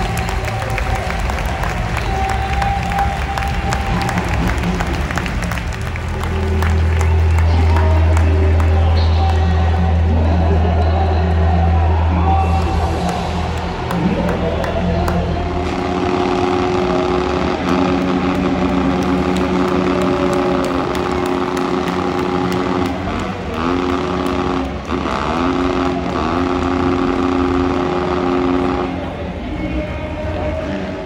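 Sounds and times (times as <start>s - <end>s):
dirt bike engine revving: 0.0s - 29.2s.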